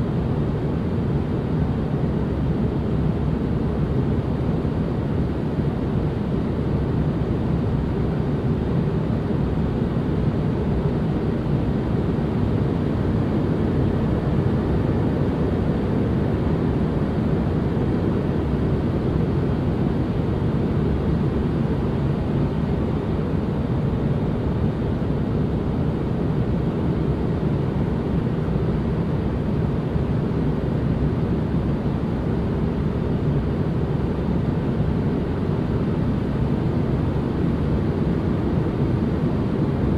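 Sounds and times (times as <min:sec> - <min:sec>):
low rumbling steady noise: 0:00.0 - 0:39.9.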